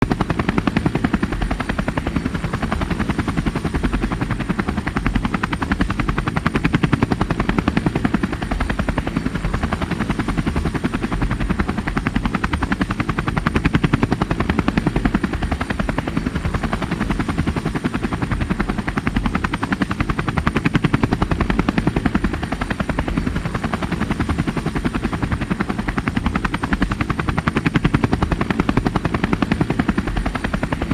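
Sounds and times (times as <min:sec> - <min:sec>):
helicopter engine noise: 0:00.0 - 0:30.9
helicopter rotor chopping: 0:00.0 - 0:30.9.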